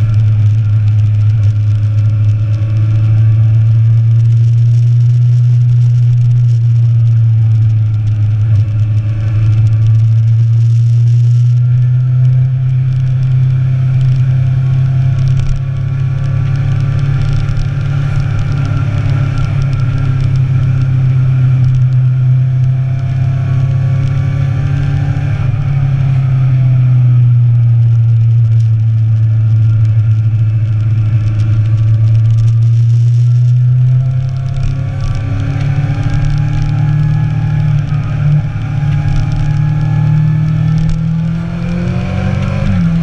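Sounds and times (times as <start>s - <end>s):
motorcycle engine drone: 0.0s - 43.0s.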